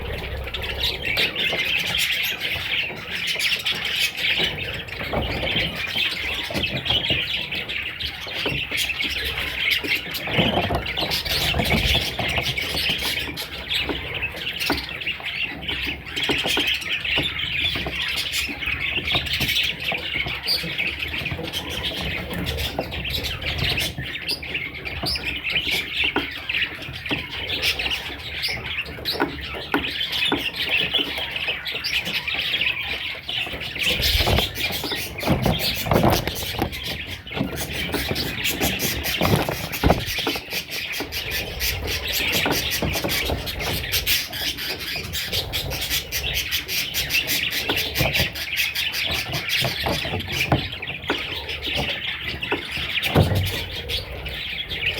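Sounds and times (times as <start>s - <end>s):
chicks chirping: 0.0s - 54.9s.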